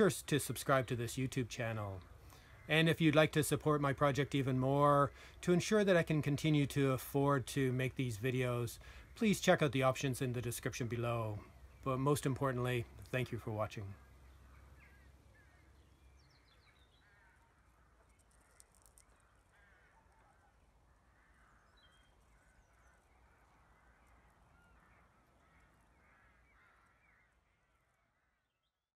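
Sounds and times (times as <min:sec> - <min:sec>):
distant bird chirping: 0:00.0 - 0:05.4, 0:07.7 - 0:28.8.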